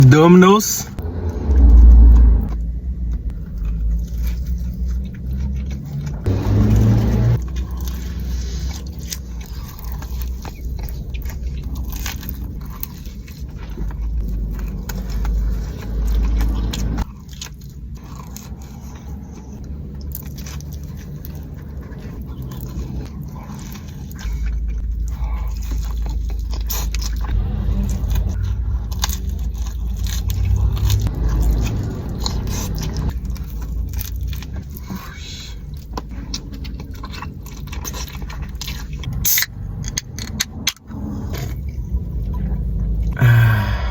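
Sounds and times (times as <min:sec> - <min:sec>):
person chewing pizza: 0:01.2 - 0:43.9.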